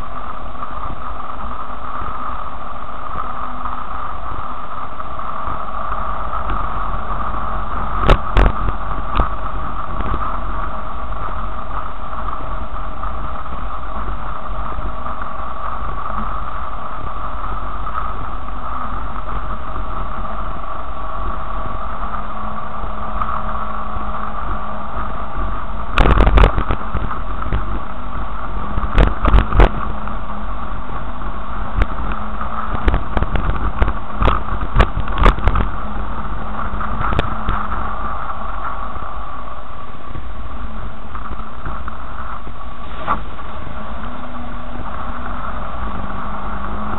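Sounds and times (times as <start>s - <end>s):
car engine running at low speed: 0.0s - 46.9s.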